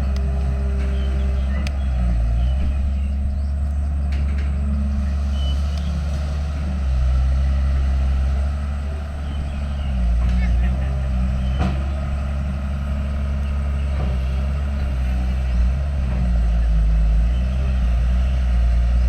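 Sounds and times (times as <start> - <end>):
heavy machinery diesel engine: 0.0 - 19.0.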